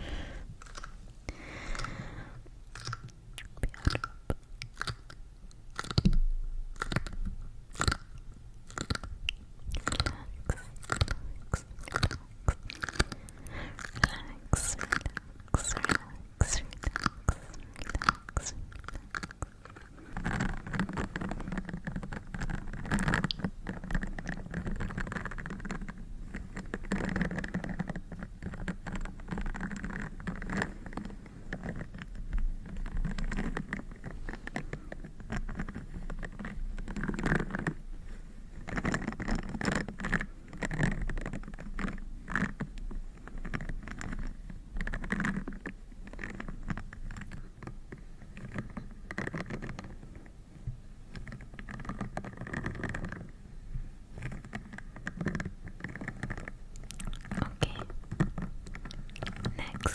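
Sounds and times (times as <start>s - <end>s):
rapid small taps and scratches: 2.7s - 59.9s.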